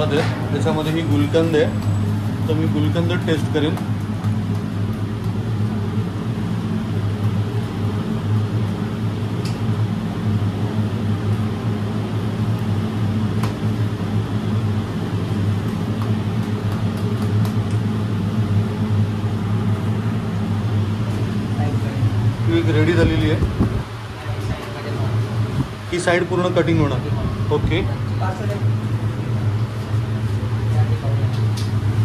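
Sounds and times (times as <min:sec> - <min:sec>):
low mechanical motor hum: 0:00.0 - 0:32.0.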